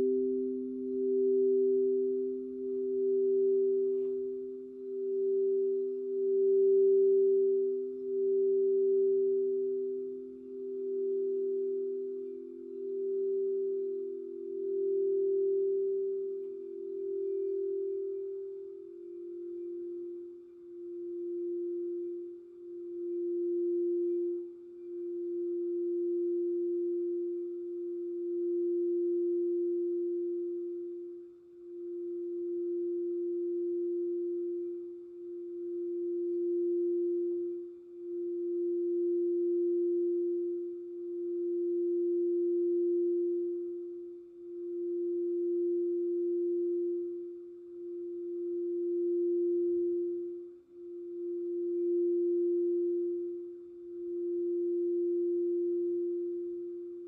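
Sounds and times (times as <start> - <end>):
crystal singing bowl tone: 0.0 - 57.0
higher singing bowl tone: 0.0 - 57.0.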